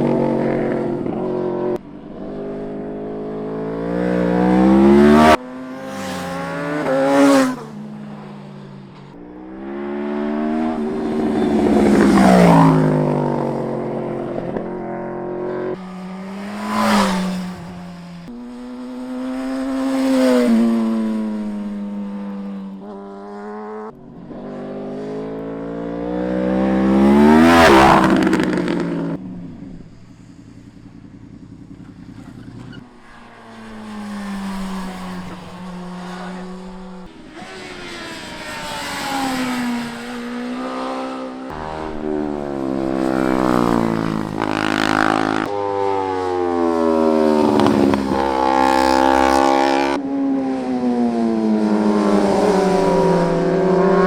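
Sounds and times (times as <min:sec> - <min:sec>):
motorcycle engines revving hard: 0:00.0 - 0:30.2, 0:31.0 - 0:54.0.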